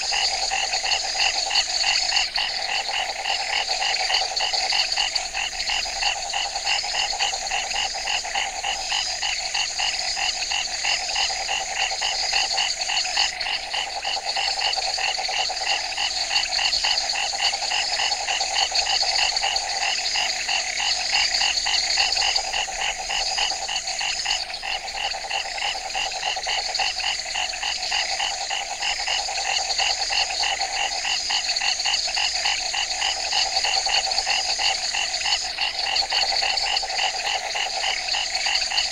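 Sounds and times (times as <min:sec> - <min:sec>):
frogs calling in chorus: 0:00.0 - 0:38.9.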